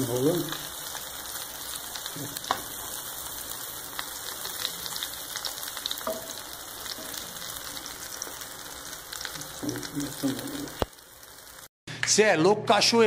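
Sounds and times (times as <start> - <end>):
omelette sizzling in a pan: 0.0 - 11.7.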